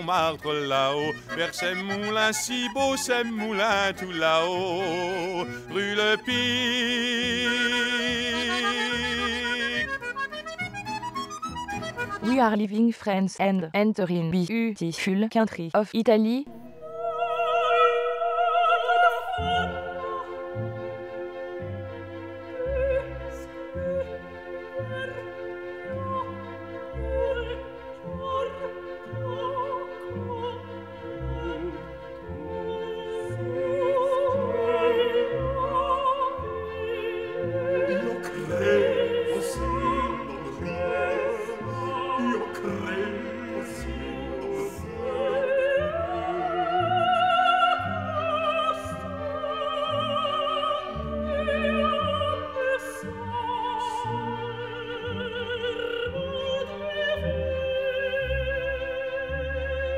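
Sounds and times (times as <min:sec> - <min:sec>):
operatic singing with orchestra: 0:00.0 - 0:10.4, 0:16.5 - 0:59.9.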